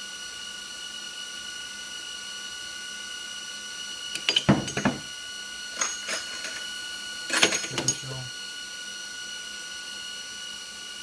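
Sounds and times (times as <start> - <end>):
machine steady high tones: 0.0 - 11.0.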